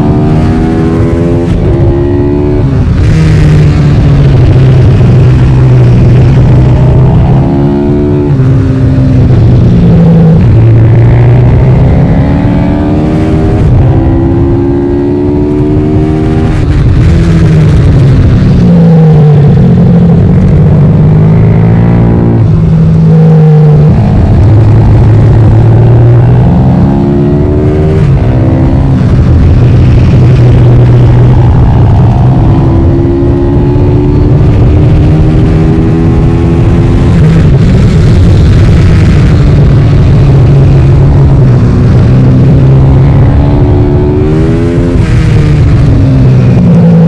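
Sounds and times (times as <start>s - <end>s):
motorbike engine revving: 0.0s - 47.0s
wind noise: 0.0s - 47.0s.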